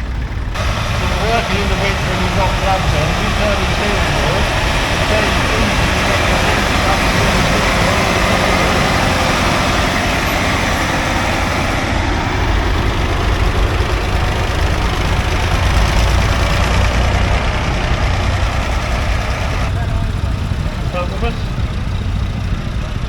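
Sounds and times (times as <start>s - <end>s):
tractor engines driving past: 0.0s - 23.0s.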